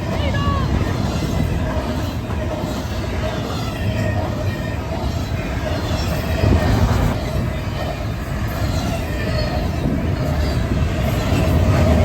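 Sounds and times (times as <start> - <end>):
freight train rolling on rails: 0.0 - 12.0
wind buffeting microphone: 0.0 - 12.0.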